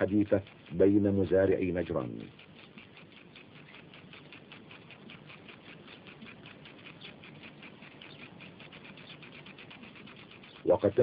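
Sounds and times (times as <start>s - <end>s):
sprinkler ticking: 0.0s - 11.0s.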